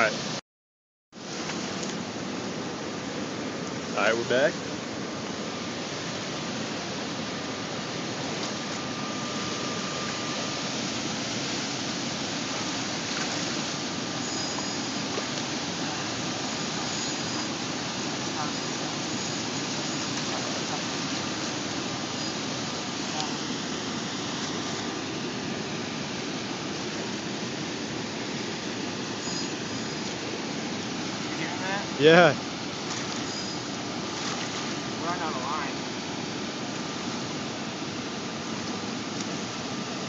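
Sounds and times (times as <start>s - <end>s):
choppy water breaking on shore: 1.2s - 40.0s.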